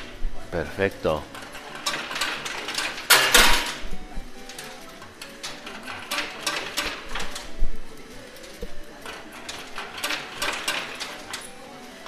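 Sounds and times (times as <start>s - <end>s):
coins clattering: 0.8s - 12.0s.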